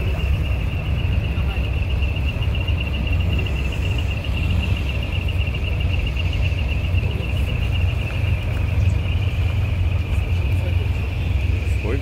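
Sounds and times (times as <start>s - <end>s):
diesel truck engine idling: 0.0s - 12.0s
high-pitched pulsing tone: 0.0s - 12.0s.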